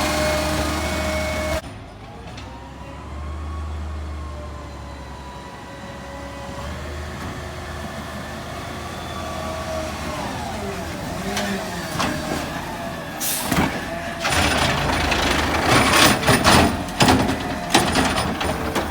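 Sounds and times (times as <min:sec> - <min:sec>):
garbage truck engine running: 0:00.0 - 0:05.2, 0:05.8 - 0:18.9.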